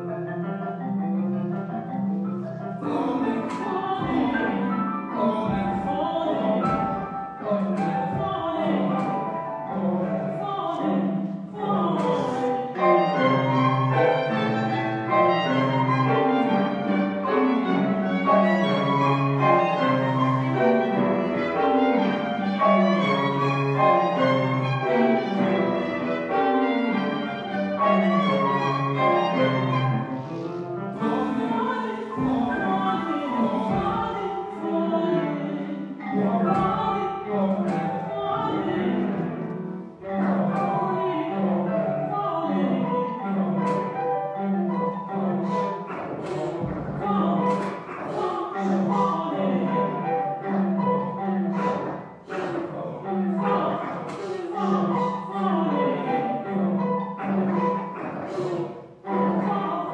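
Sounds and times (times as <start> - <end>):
bowed strings playing: 0.0 - 53.9, 54.5 - 59.9.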